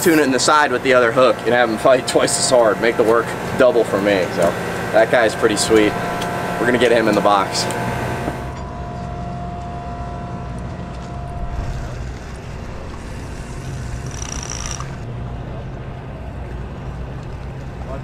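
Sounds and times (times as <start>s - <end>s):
short high whine: 0.0s - 17.0s
boat machinery humming: 0.0s - 18.0s.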